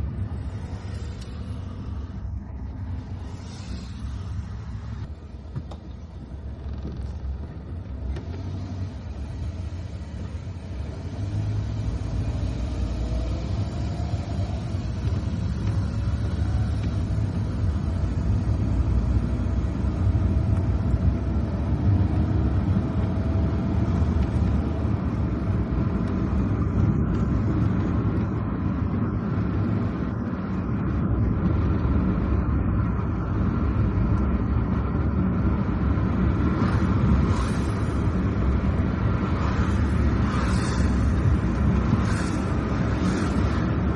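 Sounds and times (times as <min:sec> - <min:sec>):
car driving on wet road: 0:00.0 - 0:43.9.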